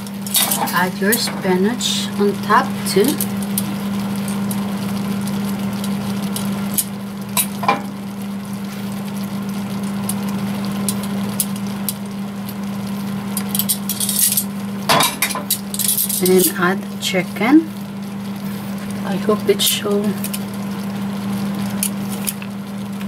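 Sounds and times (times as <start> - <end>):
low hum and hiss: 0.0 - 23.0.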